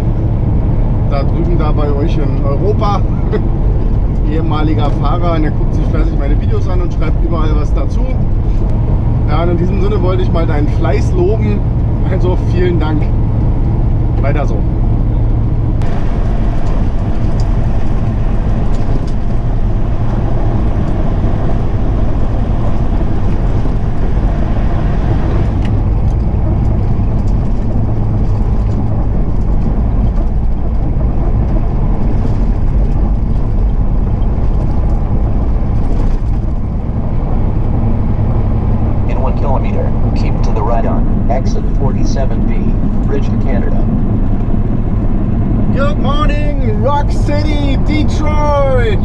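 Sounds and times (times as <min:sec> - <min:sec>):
truck engine droning: 0:00.0 - 0:49.0
tyre and road noise: 0:00.0 - 0:49.0.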